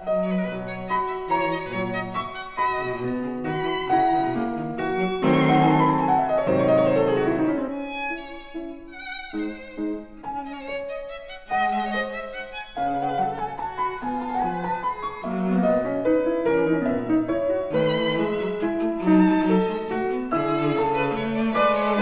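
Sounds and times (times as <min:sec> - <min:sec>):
violin music: 0:00.0 - 0:22.0.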